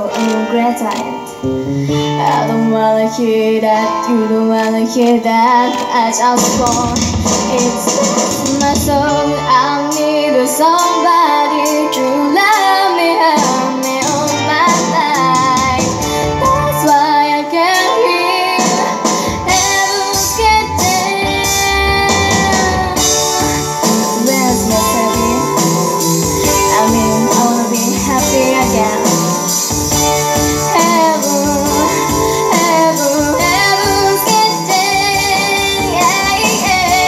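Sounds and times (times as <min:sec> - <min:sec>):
instrumental accompaniment: 0:00.0 - 0:37.0
woman singing into microphone: 0:00.0 - 0:37.0.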